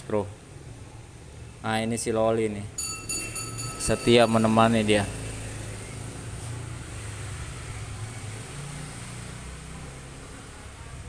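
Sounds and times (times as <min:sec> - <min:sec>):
night city background hum: 0:00.0 - 0:08.9.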